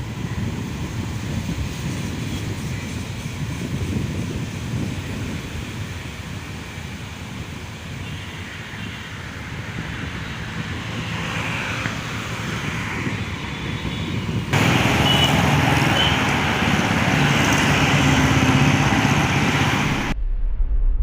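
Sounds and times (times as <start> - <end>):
jet engines roaring: 0.0 - 20.2
road traffic noise: 0.0 - 20.2.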